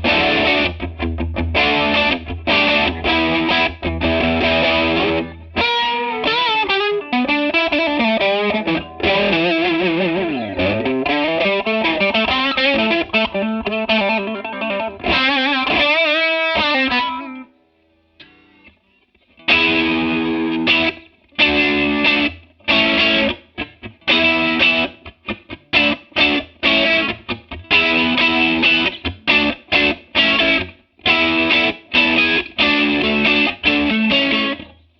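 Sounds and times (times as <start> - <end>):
electric guitar with chorus: 0.0 - 34.9.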